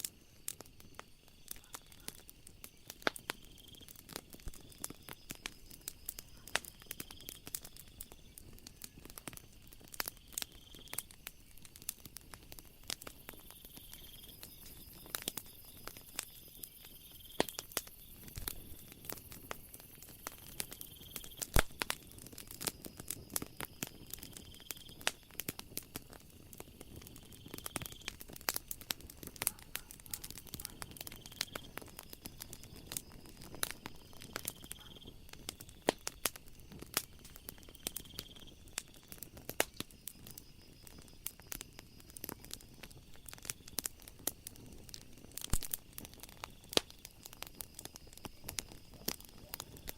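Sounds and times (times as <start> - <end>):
night insects trilling: 0.0 - 49.9
wood fire crackling and popping: 0.0 - 49.9.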